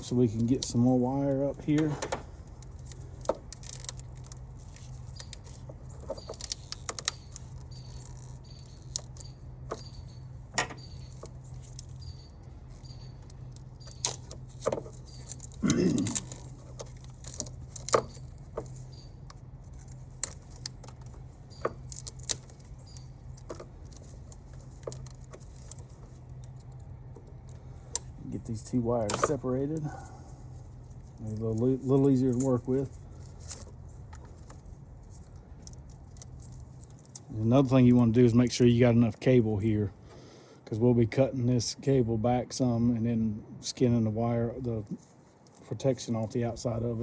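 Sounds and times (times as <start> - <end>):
tape crackling as unwound: 0.0 - 39.8, 44.6 - 47.0
tape rustle: 0.0 - 40.2, 44.6 - 47.0.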